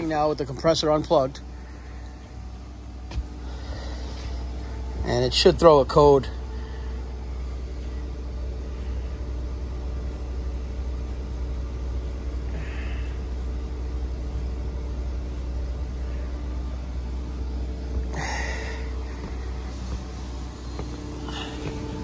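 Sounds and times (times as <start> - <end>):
heat pump fan humming: 0.0 - 22.0.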